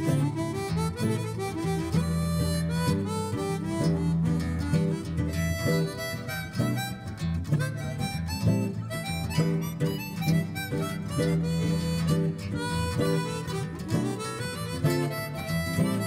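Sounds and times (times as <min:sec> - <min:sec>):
acoustic guitars: 0:00.0 - 0:16.0
harmonica solo: 0:00.0 - 0:16.0.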